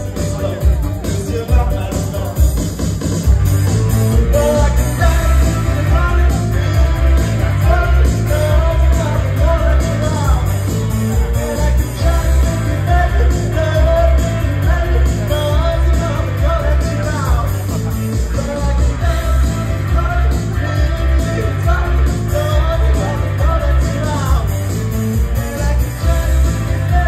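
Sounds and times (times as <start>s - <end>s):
person singing pop-rock song: 0.0s - 2.8s, 3.9s - 27.0s
strong bass beat: 0.0s - 27.0s.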